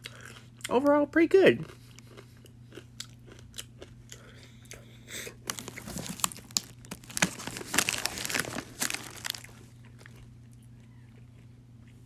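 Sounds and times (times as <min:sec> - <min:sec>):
crunchy snack being chewed: 0:00.0 - 0:00.7, 0:01.6 - 0:12.0.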